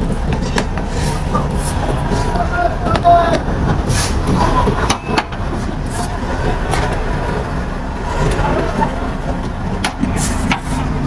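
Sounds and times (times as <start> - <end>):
heavy machinery engine rumble: 0.0 - 11.0.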